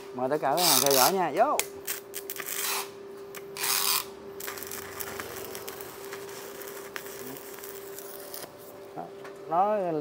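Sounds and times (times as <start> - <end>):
welder humming tone: 0.0 - 10.0
welding arc crackling sizzle: 0.0 - 10.0.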